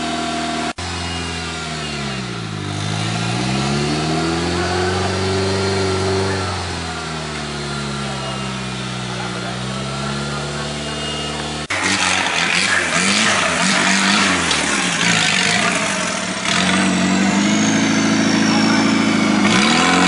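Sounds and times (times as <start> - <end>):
off-road car engine revving: 0.0 - 20.0.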